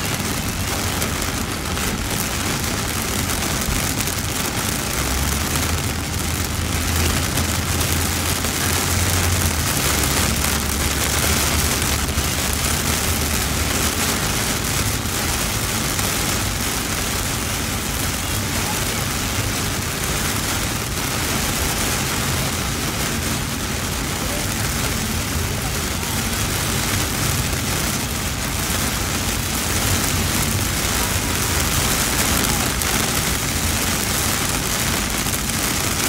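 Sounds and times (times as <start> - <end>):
heavy rain on car windscreen: 0.0 - 36.0.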